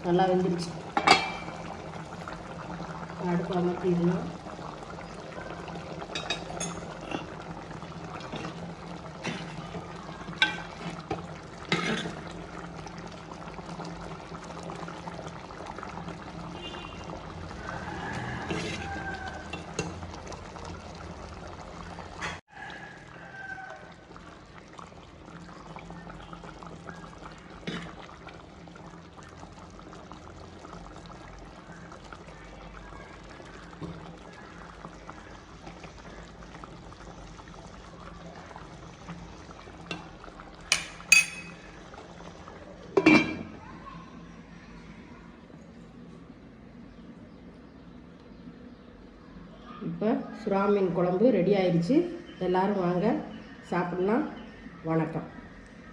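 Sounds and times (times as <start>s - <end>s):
stew bubbling in a pot: 0.0s - 55.9s.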